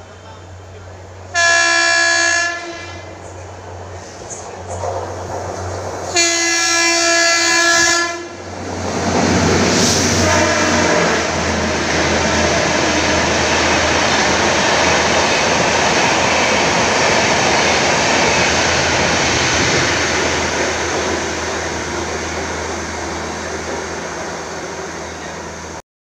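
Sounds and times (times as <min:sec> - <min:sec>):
train rushing past: 0:00.0 - 0:25.8.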